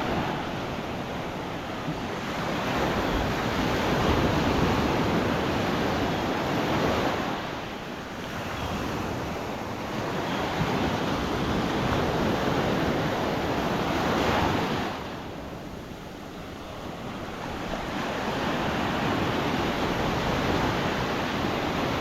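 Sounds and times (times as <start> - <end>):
surf washing up a beach: 0.0 - 22.0.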